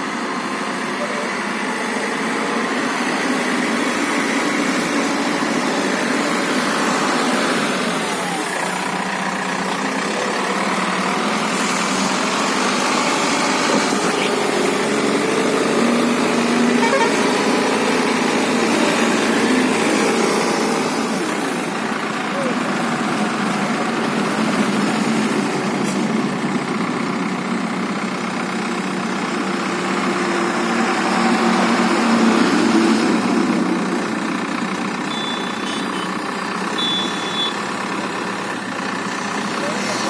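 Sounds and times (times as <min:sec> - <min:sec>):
backhoe diesel engine under load: 0:00.0 - 0:40.0.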